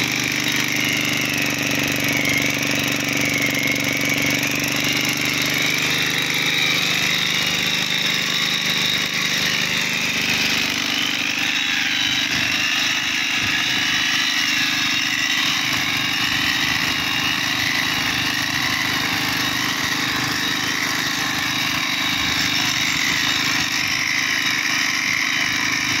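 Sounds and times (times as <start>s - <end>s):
rail grinder grinding steel: 0.0s - 26.0s.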